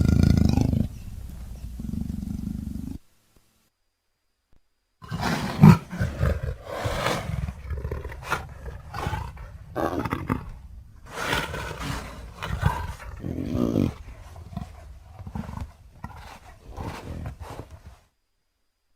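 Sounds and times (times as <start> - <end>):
big cat roars and snarls: 0.0 - 3.0, 5.0 - 18.0.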